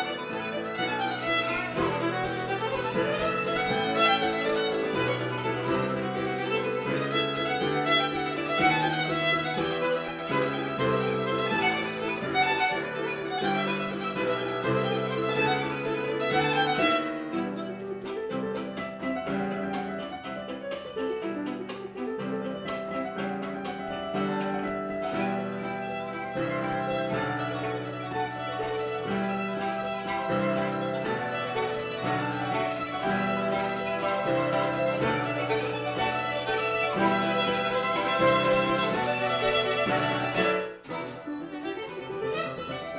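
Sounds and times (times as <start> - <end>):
piano: 0.0 - 42.9
violin: 0.0 - 42.9.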